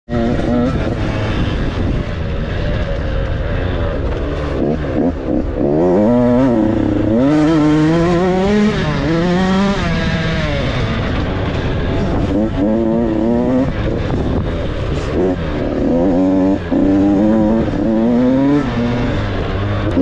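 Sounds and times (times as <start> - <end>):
dirt bike engine revving: 0.1 - 20.0.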